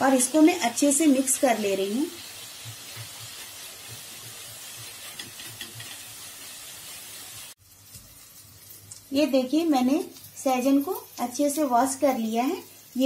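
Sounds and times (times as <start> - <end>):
paste frying in oil: 0.0 - 13.0.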